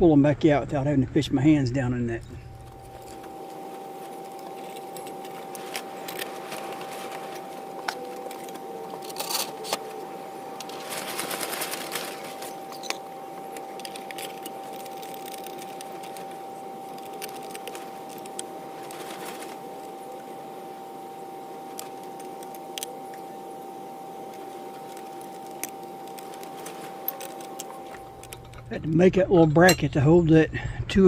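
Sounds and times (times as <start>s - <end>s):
high background hum: 0.0s - 31.0s.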